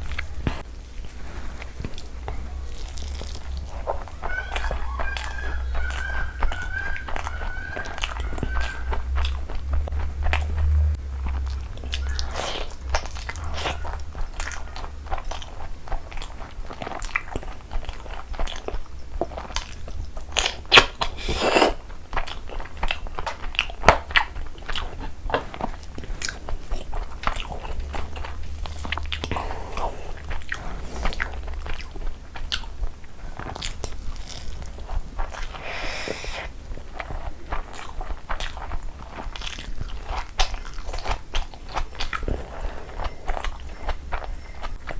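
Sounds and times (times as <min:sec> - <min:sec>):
person chewing and crunching: 0:00.0 - 0:44.9.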